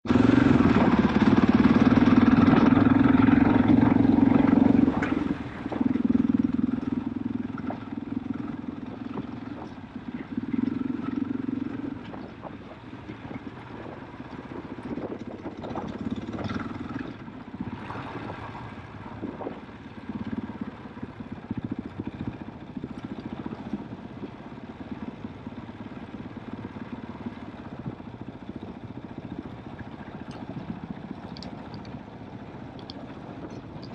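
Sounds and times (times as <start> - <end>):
motorcycle engine running: 0.0 - 33.9
knocks and clatter over rough ground: 0.1 - 33.9.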